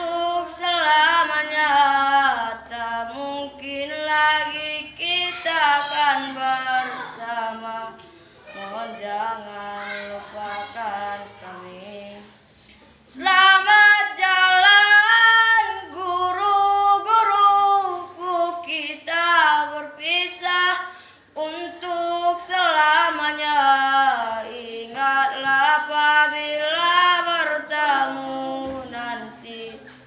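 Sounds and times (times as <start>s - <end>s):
boy singing solo: 0.0s - 12.2s, 13.1s - 29.9s.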